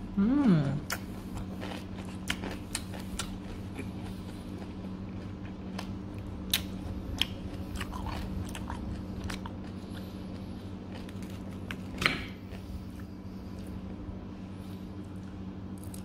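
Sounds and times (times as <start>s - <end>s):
crunchy chewing: 0.8s - 13.9s.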